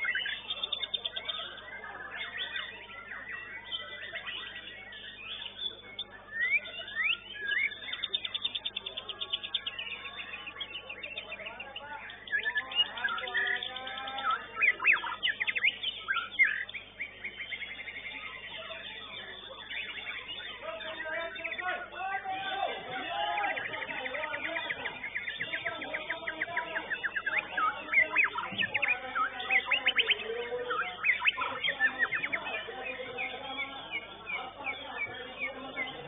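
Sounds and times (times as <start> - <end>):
songbird singing trills: 0.0 - 36.0.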